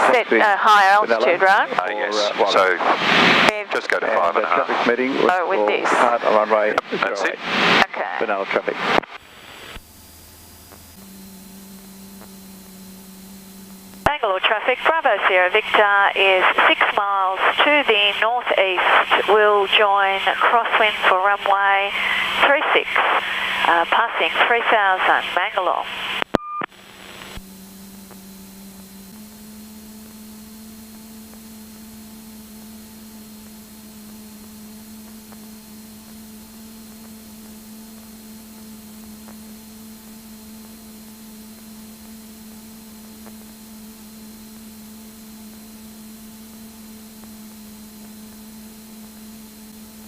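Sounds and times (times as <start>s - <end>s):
airplane engine and propeller drone: 0.0s - 26.1s, 26.7s - 50.0s.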